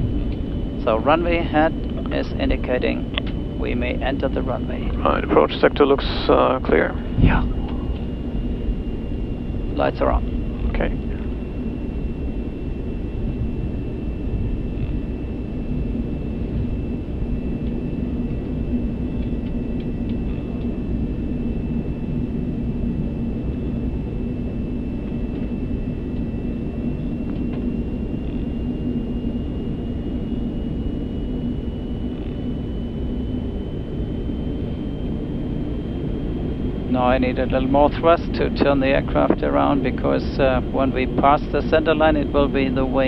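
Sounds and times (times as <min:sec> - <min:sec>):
high engine whine: 0:00.0 - 0:43.0
jet engines low rumble: 0:00.0 - 0:43.0.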